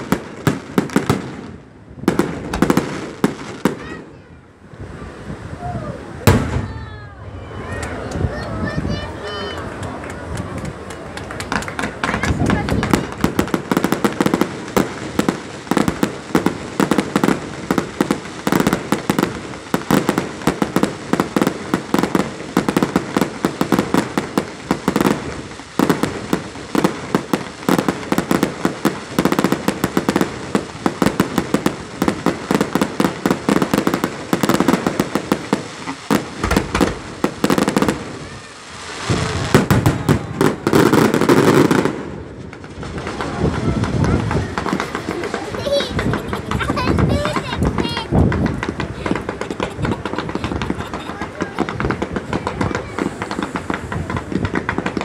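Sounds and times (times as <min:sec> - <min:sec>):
deep fireworks booms: 0:00.0 - 0:55.0
fireworks bangs and crackling: 0:00.0 - 0:55.0.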